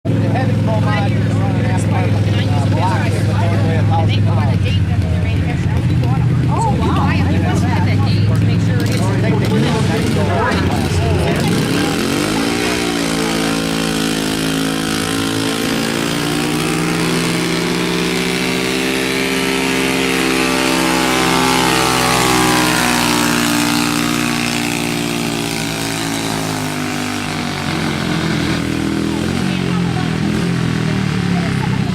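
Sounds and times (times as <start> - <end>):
truck engine running under load: 0.1 - 31.9.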